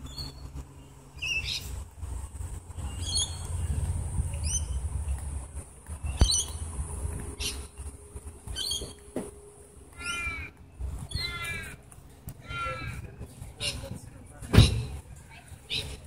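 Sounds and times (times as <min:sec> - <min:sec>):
birds squawking and chirping: 0:00.0 - 0:05.3, 0:05.9 - 0:16.0
steady low rumble: 0:00.0 - 0:15.7.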